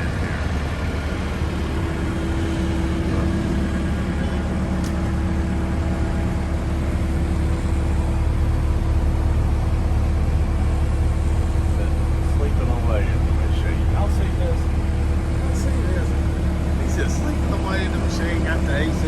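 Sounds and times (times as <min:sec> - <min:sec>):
steady hum: 0:00.0 - 0:19.0
vehicle engine idling: 0:00.0 - 0:19.0.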